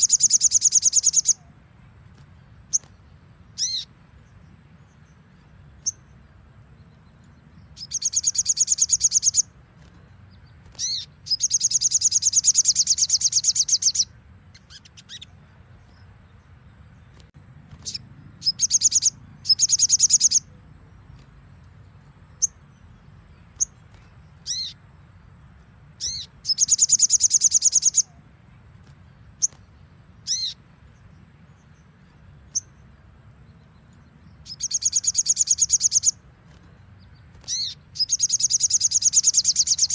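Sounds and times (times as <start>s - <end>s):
bird singing rapid high trills: 0.0s - 39.9s.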